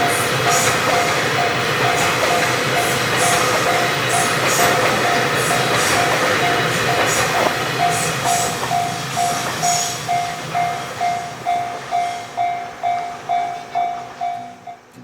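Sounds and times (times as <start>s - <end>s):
freight train rumble: 0.0s - 15.0s
level crossing bell clanging: 0.0s - 15.0s.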